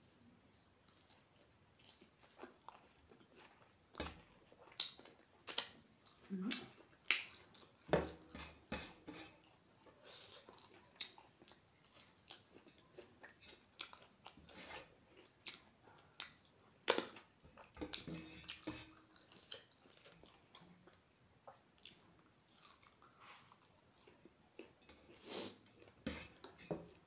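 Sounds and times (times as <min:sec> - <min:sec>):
person chewing food: 0:00.8 - 0:27.0.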